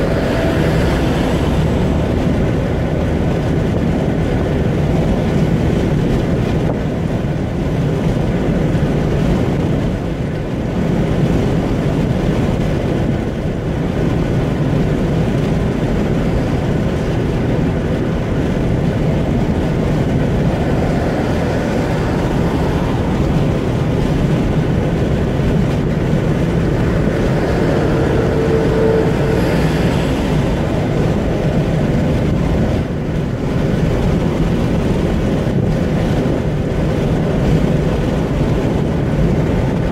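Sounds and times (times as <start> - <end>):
car engine running: 0.0 - 39.9
tyres on road: 0.0 - 39.9
wind noise inside car: 0.0 - 39.9.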